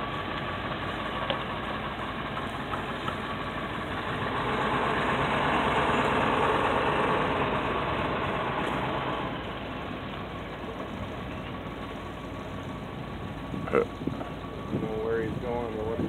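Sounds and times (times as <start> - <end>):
bus engine running: 0.0 - 16.0
tires on dirt and gravel: 0.0 - 16.0.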